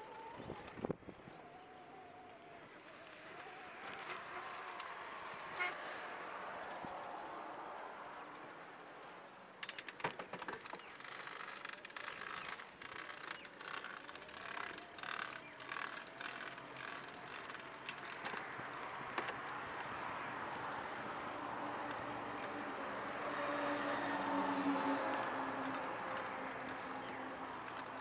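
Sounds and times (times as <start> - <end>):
trike wheels clicking and rattling: 0.0 - 28.0.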